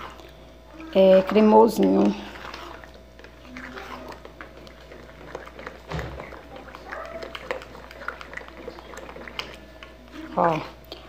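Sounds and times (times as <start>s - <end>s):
spoon stirring thick filling: 0.0s - 11.0s.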